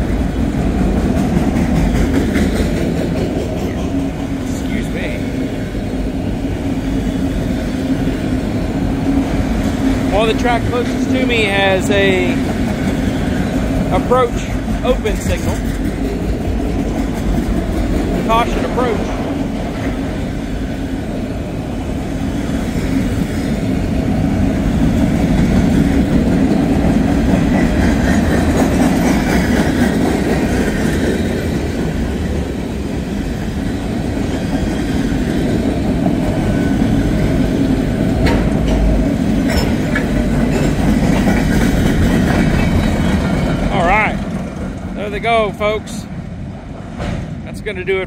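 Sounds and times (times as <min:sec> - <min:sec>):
freight train wheels rumbling: 0:00.0 - 0:48.0.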